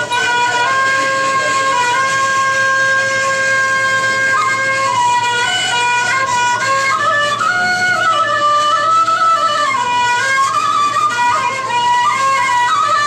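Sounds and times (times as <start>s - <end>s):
flute-like wind instrument melody: 0.0s - 13.0s
low accompanying line: 0.0s - 13.0s.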